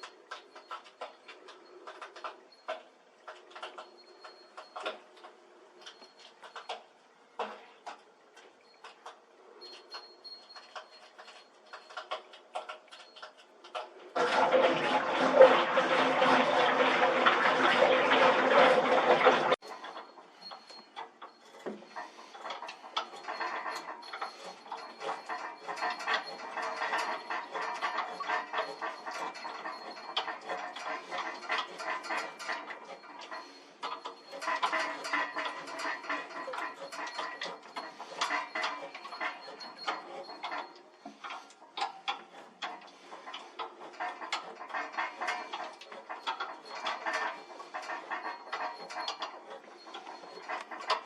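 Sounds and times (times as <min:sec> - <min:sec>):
hand tools clicking and rattling: 0:00.0 - 0:51.0.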